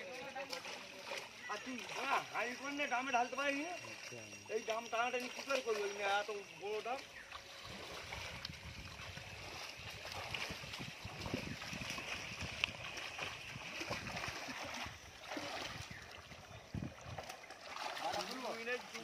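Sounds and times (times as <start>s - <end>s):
pond water splashing and sloshing: 0.0s - 19.0s
fish thrashing in water: 3.3s - 19.0s.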